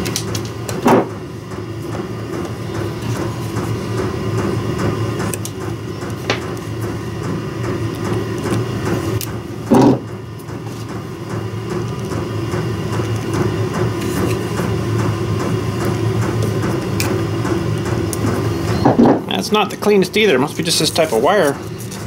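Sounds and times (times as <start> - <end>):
shop heater drone: 0.0 - 22.0.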